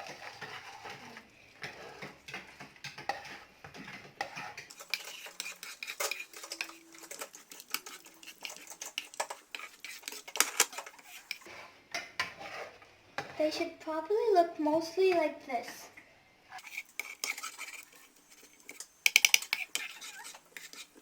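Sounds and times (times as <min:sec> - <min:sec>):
spoon scraping a metal pan: 0:00.0 - 0:13.5, 0:16.6 - 0:21.0.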